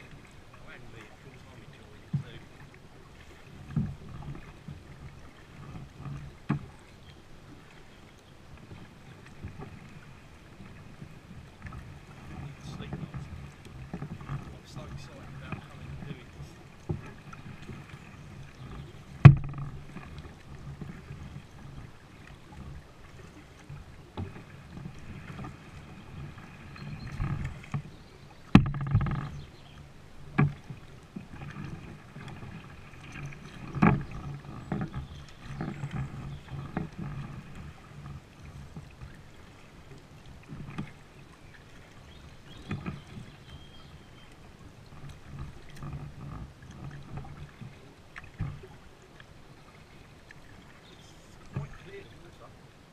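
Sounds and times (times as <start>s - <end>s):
paddle knocking against kayak hull: 0.0s - 52.4s
paddle strokes splashing water: 0.0s - 52.9s.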